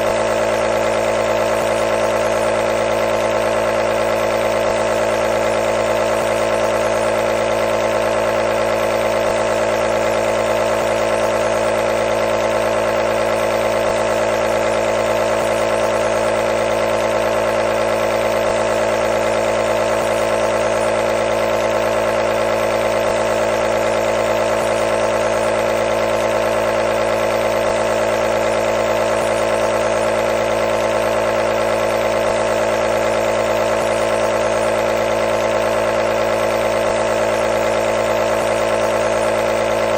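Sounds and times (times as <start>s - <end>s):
air compressor buzzing hum: 0.0s - 39.9s.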